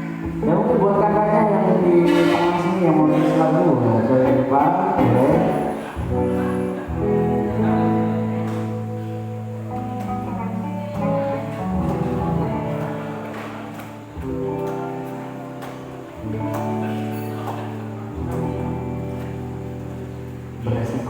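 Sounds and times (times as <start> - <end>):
live band playing instrumental: 0.0 - 20.7.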